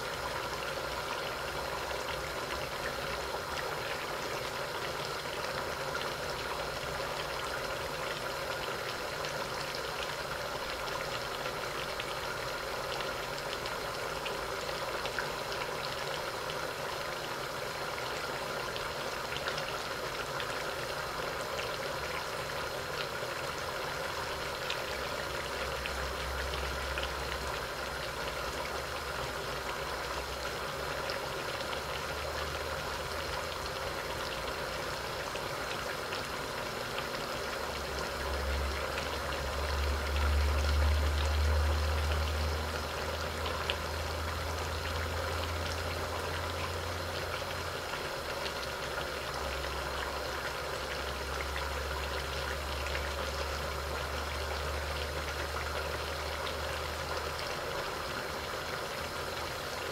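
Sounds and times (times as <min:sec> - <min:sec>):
food bubbling and sizzling: 0:00.0 - 0:59.9.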